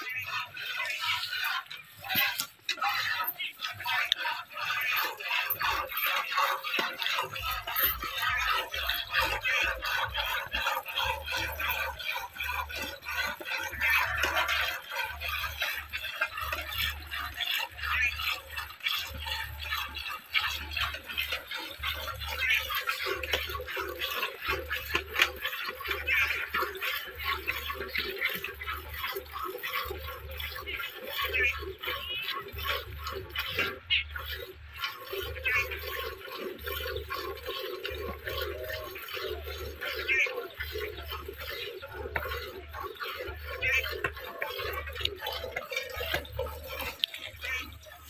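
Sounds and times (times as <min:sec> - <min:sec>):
milk squirting into metal pail: 0:00.0 - 0:48.0.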